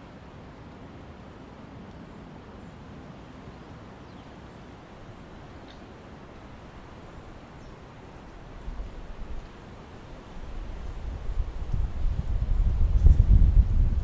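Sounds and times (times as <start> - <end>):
wind in trees rustling leaves: 0.0 - 14.0.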